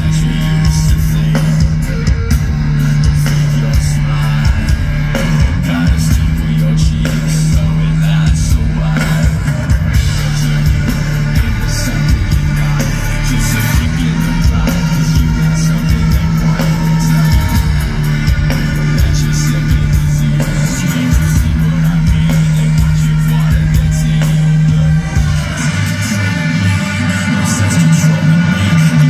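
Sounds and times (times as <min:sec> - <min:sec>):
drum kit: 0:00.0 - 0:29.0
electric guitar: 0:00.0 - 0:29.0
person singing into microphone: 0:00.0 - 0:29.0.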